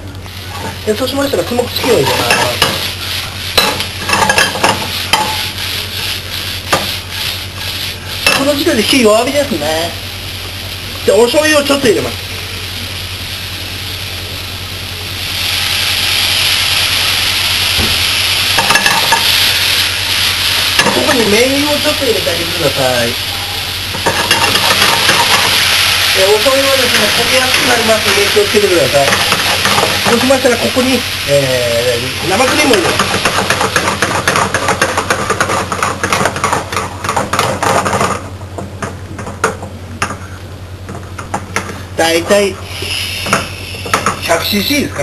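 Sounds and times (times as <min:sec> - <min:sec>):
food sizzling in frying pan: 0:00.0 - 0:45.0.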